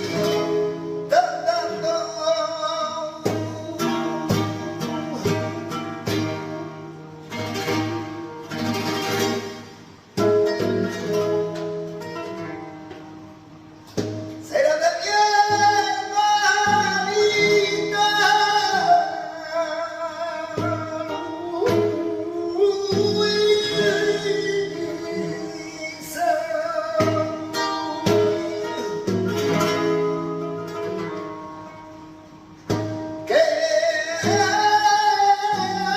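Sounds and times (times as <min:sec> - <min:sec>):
guitar strummed chords: 0:00.0 - 0:35.9.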